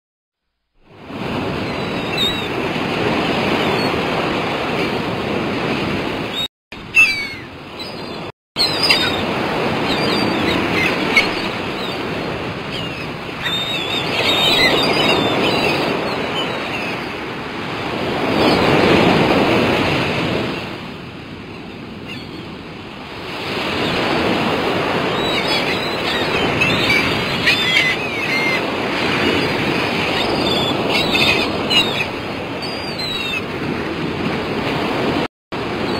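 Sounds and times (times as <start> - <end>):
sea waves breaking: 0.8 - 35.9.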